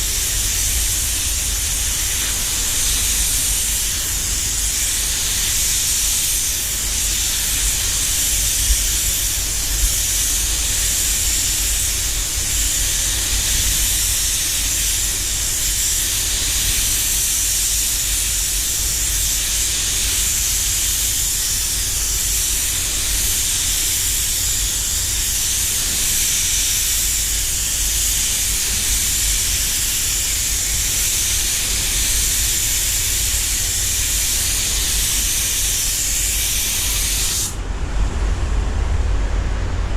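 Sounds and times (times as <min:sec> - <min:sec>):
spray gun hissing: 0:00.0 - 0:37.6.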